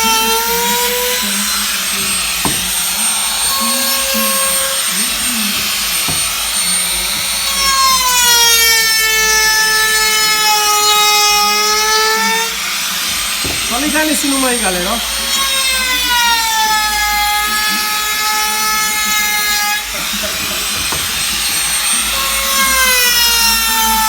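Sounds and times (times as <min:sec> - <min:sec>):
power tool motor whining: 0:00.0 - 0:24.0.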